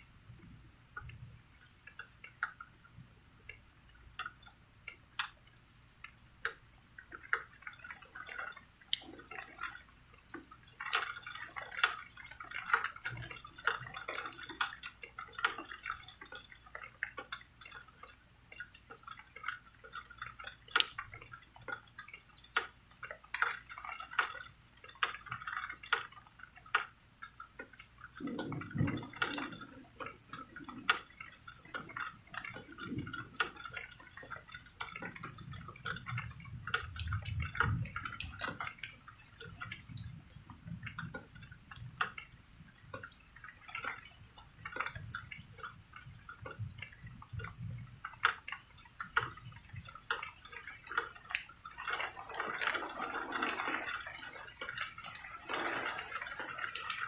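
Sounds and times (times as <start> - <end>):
rain dripping: 0.0 - 57.0.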